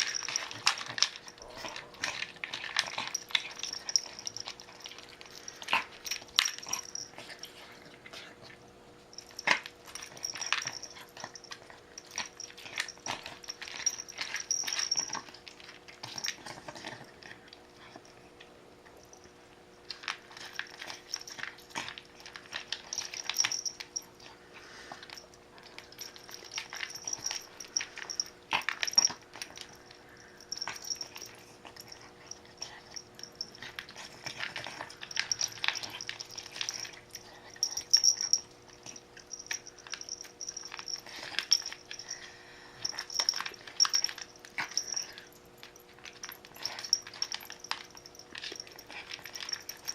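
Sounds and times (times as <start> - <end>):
pet eating from bowl: 0.0 - 49.9.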